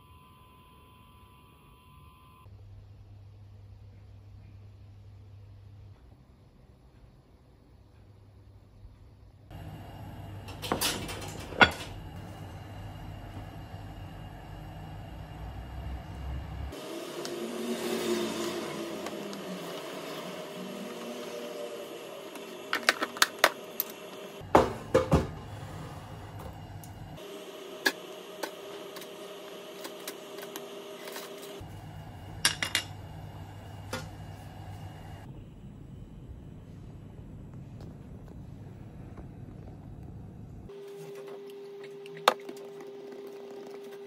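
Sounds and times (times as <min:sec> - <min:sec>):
low hum: 0:00.0 - 0:40.7.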